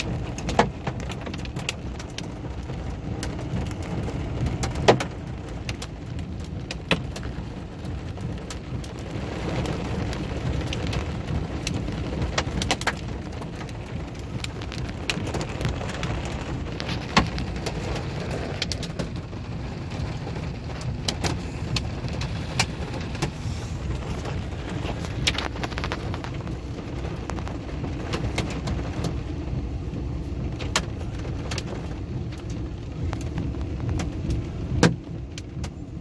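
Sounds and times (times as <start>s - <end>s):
hailstones striking hard surfaces: 0.0s - 29.2s
heavy rain hiss: 0.0s - 36.0s.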